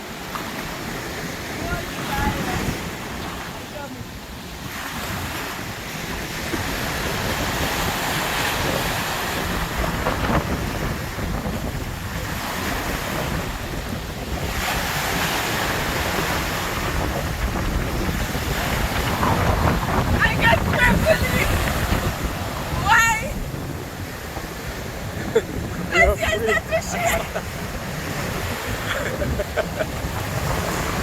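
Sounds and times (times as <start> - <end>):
sea waves breaking on beach: 0.0 - 31.0
wind buffeting microphone: 0.0 - 31.0.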